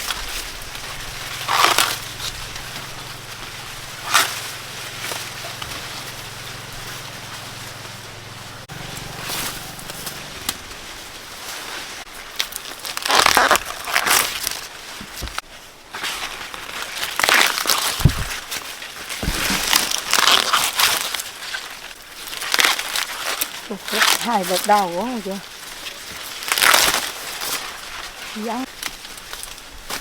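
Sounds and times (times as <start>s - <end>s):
dry corn leaves rustling: 0.0s - 30.0s.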